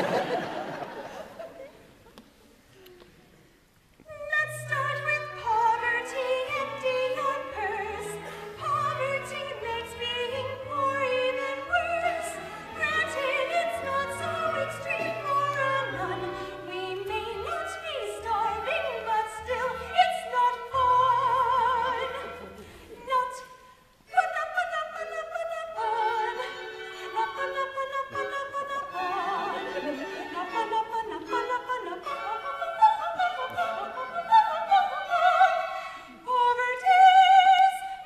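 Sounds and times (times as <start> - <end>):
soprano singing operatic style: 4.0 - 38.0.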